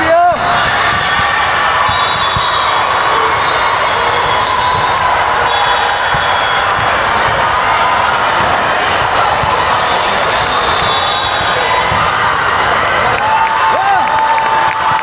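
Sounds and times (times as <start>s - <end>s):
many overlapping voices: 0.0s - 15.0s
balls thumping on court floor: 0.3s - 3.1s, 3.8s - 15.0s.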